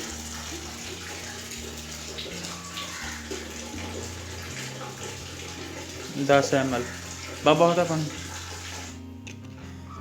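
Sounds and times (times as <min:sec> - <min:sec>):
water pouring into container: 0:00.0 - 0:09.0.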